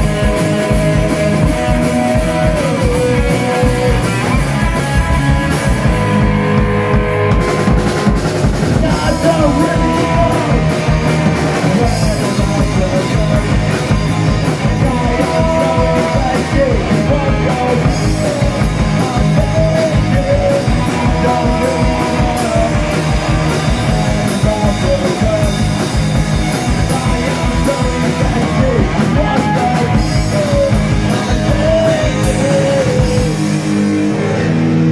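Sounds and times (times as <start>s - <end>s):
person singing: 0.0s - 6.6s, 8.6s - 34.5s
punk rock band playing: 0.0s - 34.9s.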